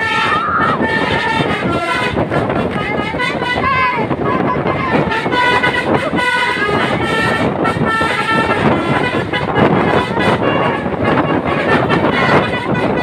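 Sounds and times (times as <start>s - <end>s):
road traffic rumble: 0.0s - 13.0s
truck musical horn: 0.0s - 13.0s.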